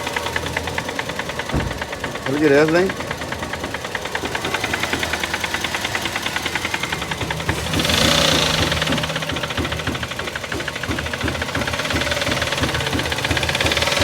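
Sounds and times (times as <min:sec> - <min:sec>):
car engine ticking knock: 0:00.0 - 0:14.0.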